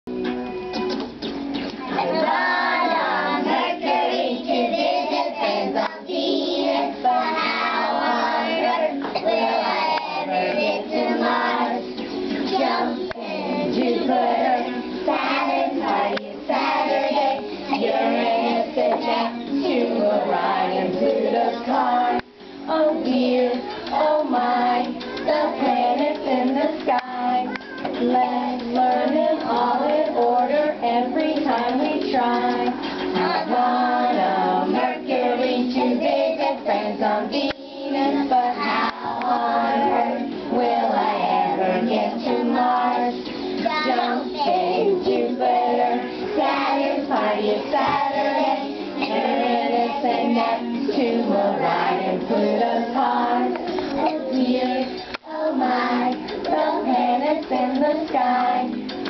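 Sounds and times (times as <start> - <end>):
musical accompaniment: 0.1 - 59.0
children singing together: 1.7 - 59.0.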